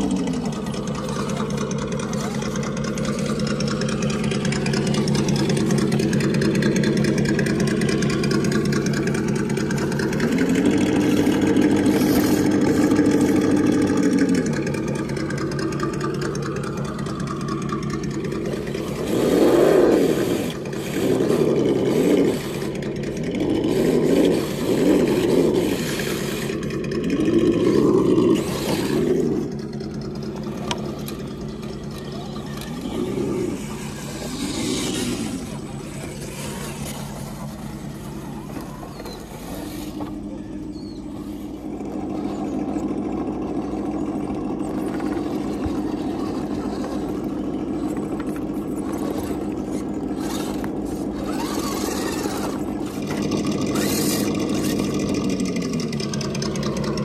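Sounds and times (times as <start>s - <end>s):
rc truck motors whining: 0.0s - 57.0s.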